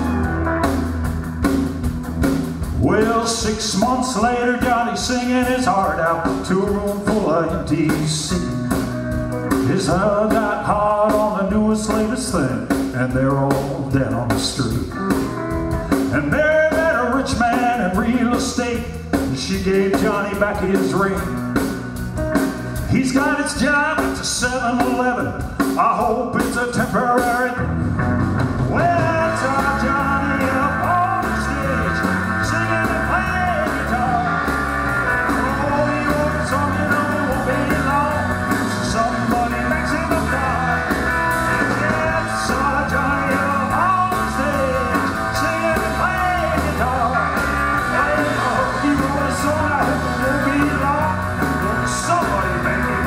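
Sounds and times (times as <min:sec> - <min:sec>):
rock and roll band playing: 0:00.0 - 0:53.0.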